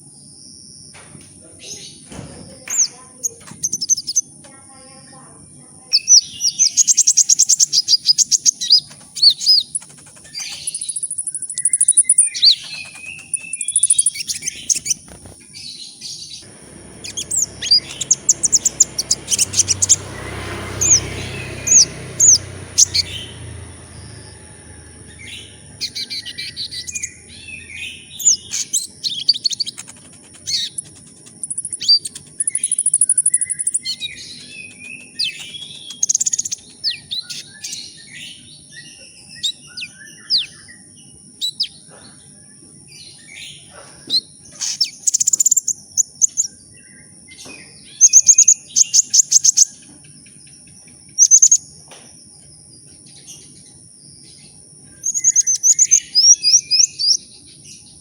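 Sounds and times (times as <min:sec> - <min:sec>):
small bird chirping and trilling: 0:01.6 - 0:05.2, 0:05.8 - 0:51.8, 0:52.7 - 0:58.0.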